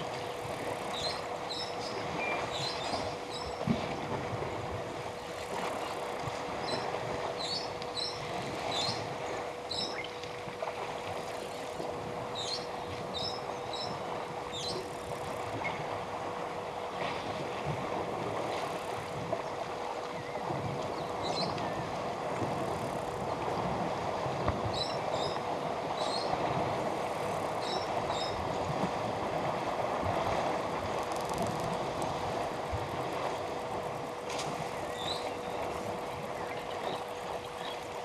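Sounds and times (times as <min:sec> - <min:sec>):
steady hum: 0:00.0 - 0:38.0
water sloshing and splashing: 0:00.0 - 0:38.0.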